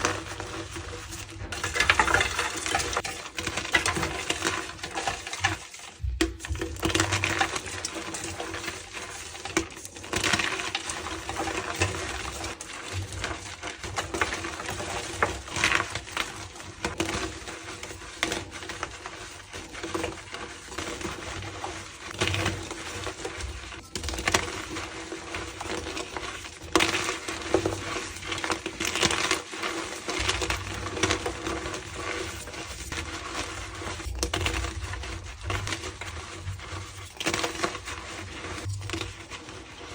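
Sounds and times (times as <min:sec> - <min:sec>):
chalk crunching and crumbling: 0:00.0 - 0:39.9.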